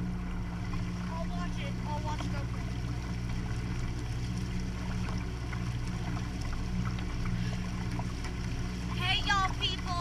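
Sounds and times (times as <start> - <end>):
boat engine drone: 0.0 - 10.0
water rushing along hull: 0.0 - 10.0.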